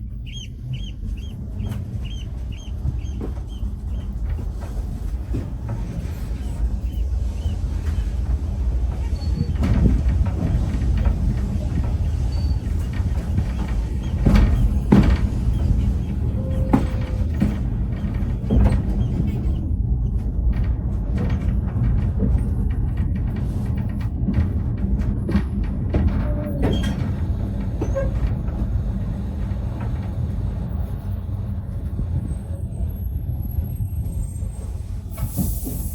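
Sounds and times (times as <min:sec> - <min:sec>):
train rumbling along track: 0:00.0 - 0:35.9
knocks and rattles: 0:00.3 - 0:32.3.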